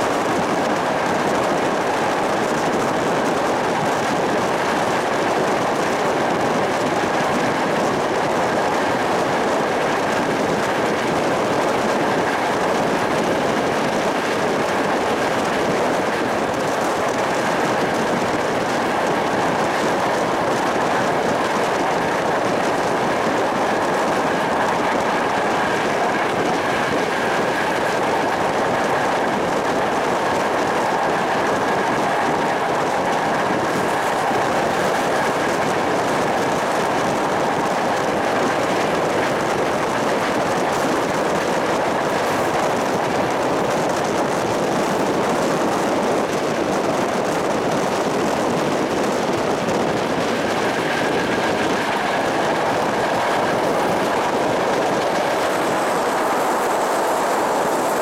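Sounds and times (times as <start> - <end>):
train wheels rolling on rails: 0.0 - 58.0.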